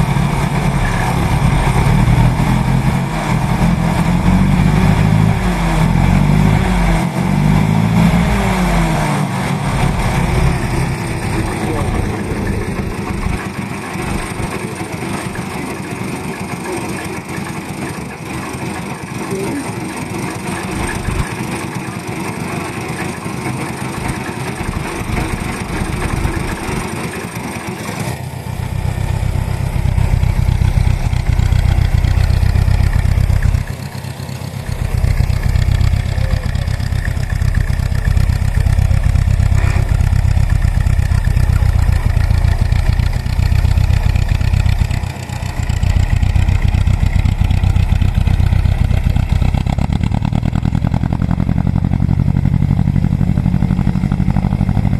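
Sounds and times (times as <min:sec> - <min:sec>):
deep steady engine beat: 0:00.0 - 0:54.9
stationary engines running: 0:00.0 - 0:54.9.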